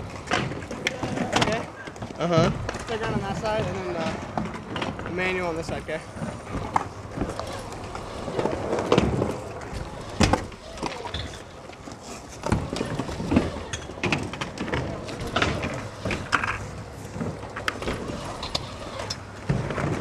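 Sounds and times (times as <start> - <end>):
bike tyres rolling on ramp: 0.0 - 20.0.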